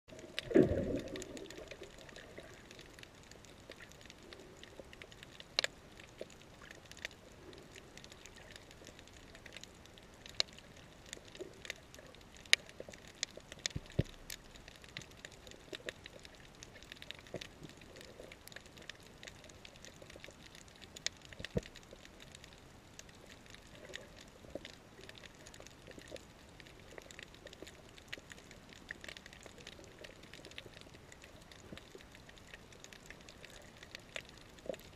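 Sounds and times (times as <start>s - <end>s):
faint underwater hiss: 0.1s - 34.9s
sharp clicks and crackles: 0.1s - 34.9s.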